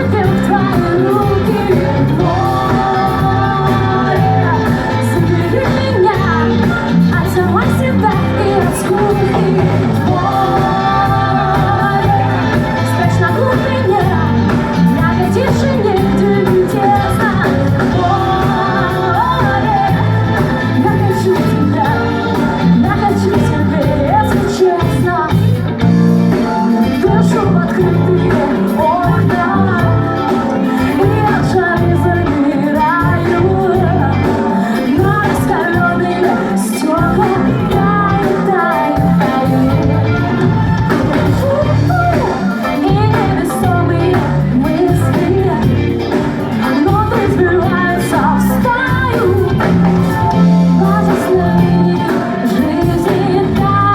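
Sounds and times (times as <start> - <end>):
person singing: 0.0 - 53.9
pop-rock band playing live: 0.0 - 53.9.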